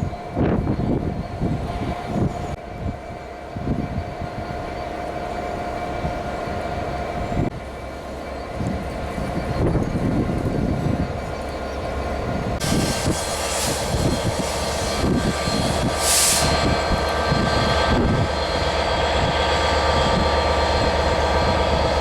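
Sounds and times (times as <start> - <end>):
train rumbling past: 0.0 - 22.0
train whine: 0.0 - 22.0.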